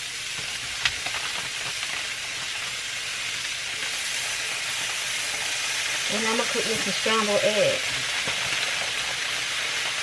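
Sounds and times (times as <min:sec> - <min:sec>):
bacon sizzling on a griddle: 0:00.0 - 0:10.0.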